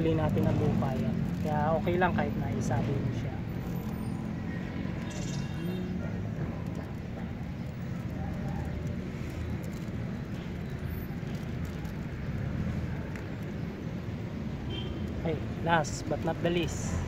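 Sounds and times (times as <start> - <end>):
low urban rumble: 0.0 - 17.0.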